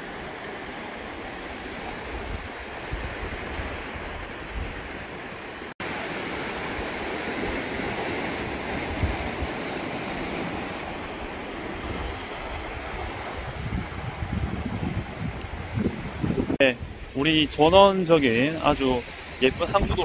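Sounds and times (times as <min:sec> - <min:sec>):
waves breaking over rocks: 0:00.0 - 0:20.0.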